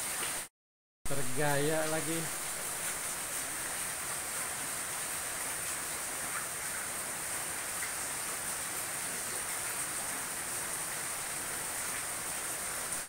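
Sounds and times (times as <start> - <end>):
heavy rain falling: 1.1 - 13.0.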